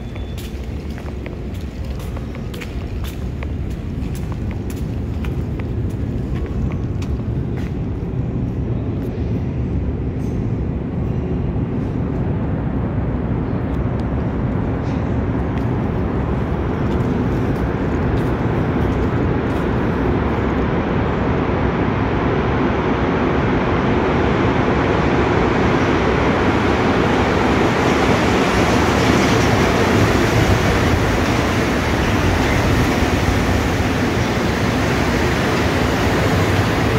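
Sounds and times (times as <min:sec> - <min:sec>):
metro train rumble and hiss: 0:00.0 - 0:36.9.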